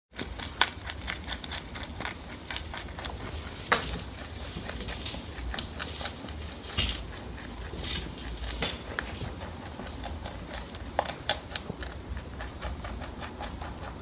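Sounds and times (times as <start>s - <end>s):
rabbit chewing leaves: 0.1s - 14.0s.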